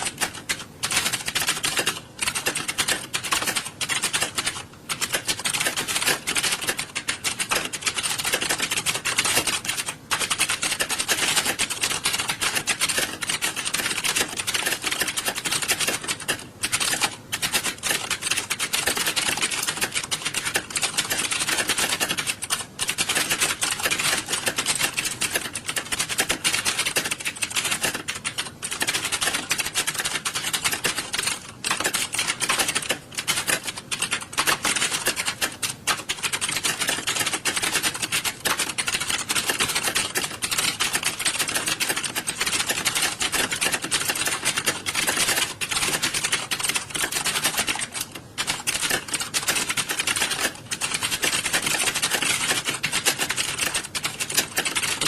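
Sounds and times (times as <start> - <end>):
keyboard typing clatter: 0.0 - 55.0.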